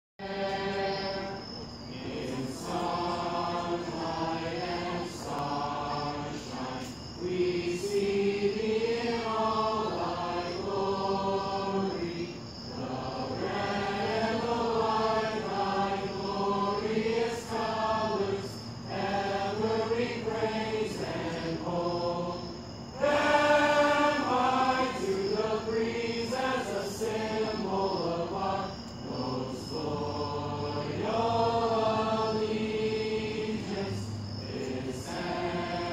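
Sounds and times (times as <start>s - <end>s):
choir singing long notes: 0.2s - 35.9s.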